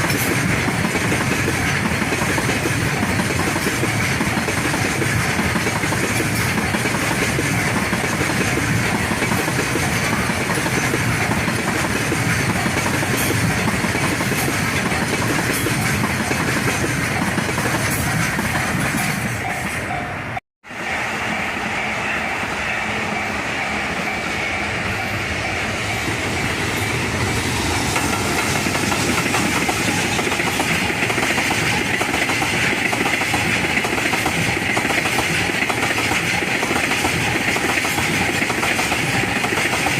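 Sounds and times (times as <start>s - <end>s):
freight train wheels clattering: 0.0s - 20.0s, 23.1s - 39.9s.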